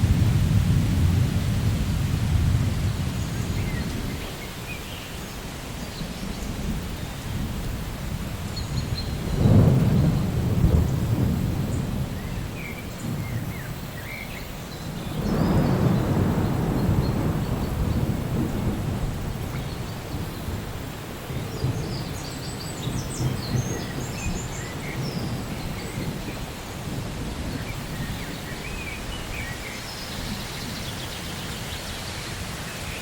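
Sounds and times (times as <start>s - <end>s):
thunder rumbling: 0.0s - 4.4s, 6.0s - 13.9s, 14.8s - 31.4s
steady rain: 0.0s - 33.0s.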